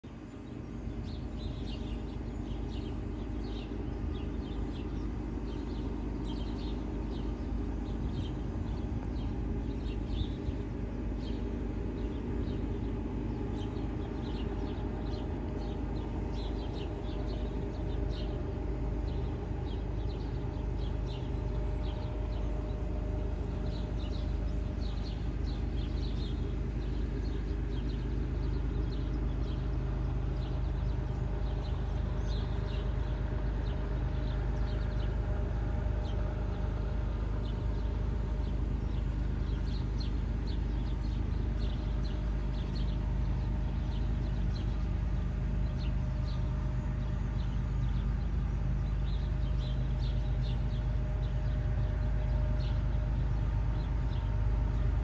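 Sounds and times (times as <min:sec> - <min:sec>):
birds chirping: 0:00.0 - 0:55.0
distant diesel locomotive rumble: 0:00.0 - 0:55.0.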